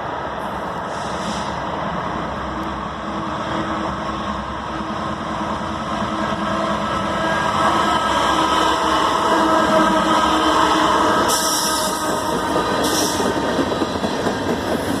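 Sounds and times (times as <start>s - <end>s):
diesel locomotive and rail rumble: 0.0s - 15.0s.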